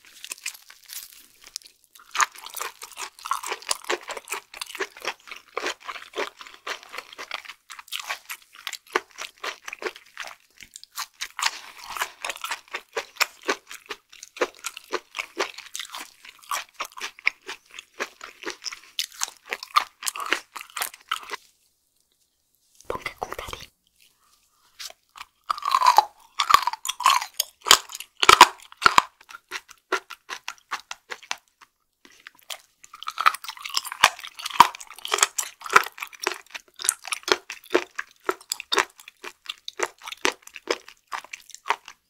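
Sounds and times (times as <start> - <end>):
wet crunchy chewing: 0.0 - 21.5, 22.8 - 42.0.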